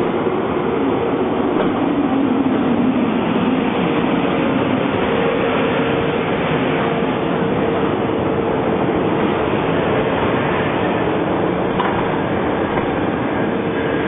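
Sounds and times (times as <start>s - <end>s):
locomotive hum: 0.0s - 14.0s
train rumble: 0.0s - 14.0s.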